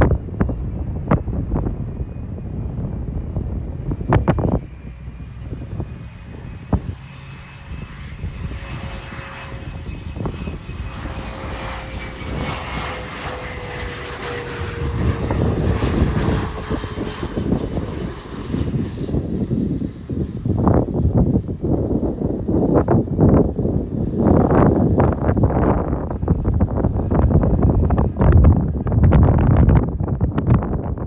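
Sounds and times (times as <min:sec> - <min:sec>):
jet engines passing: 0:00.0 - 0:31.0
wind rumbling on microphone: 0:00.0 - 0:31.0.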